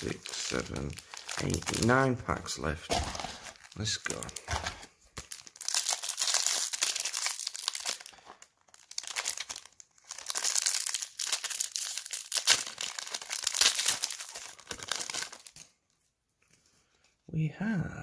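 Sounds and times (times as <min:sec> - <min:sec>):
foil wrapper crinkling and tearing: 0:00.0 - 0:15.8.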